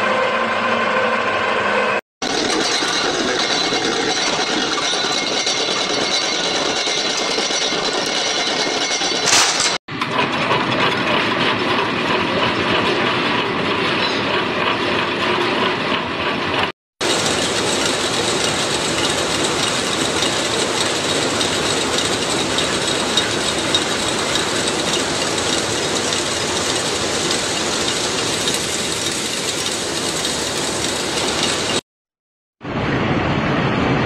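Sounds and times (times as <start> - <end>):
machine rattling: 2.2 - 31.8.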